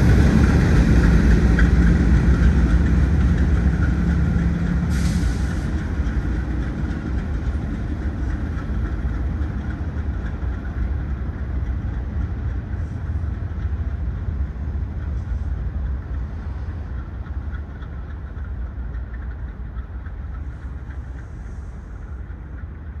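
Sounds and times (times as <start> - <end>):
freight train rumble: 0.0 - 23.0.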